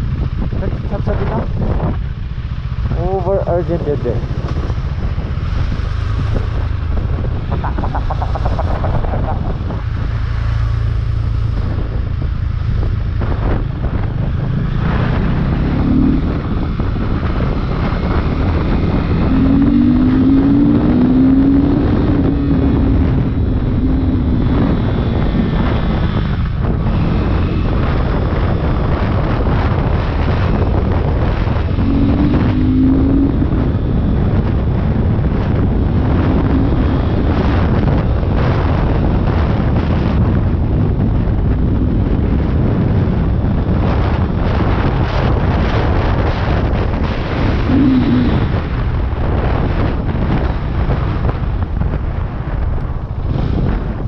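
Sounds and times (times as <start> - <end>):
motorcycle engine revving: 0.0 - 54.0
wind on microphone: 0.0 - 54.0.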